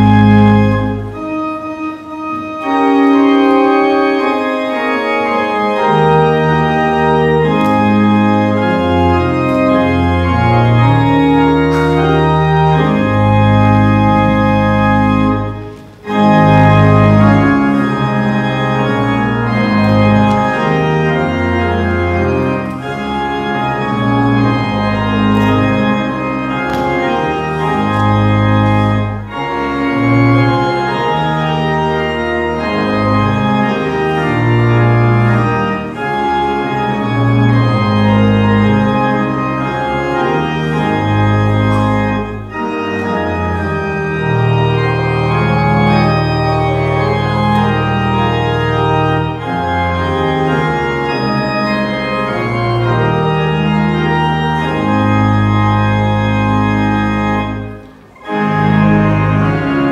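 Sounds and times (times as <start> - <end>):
church organ playing a hymn: 0.0 - 59.9.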